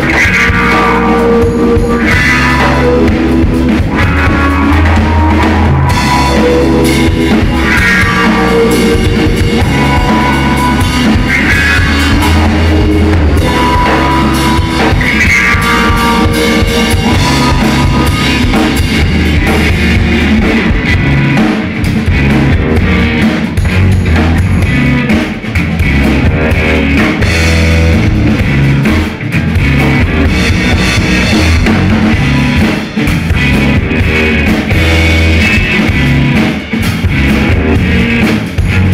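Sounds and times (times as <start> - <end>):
drum kit: 0.0 - 38.9
electric guitars through amplifiers: 0.0 - 38.9.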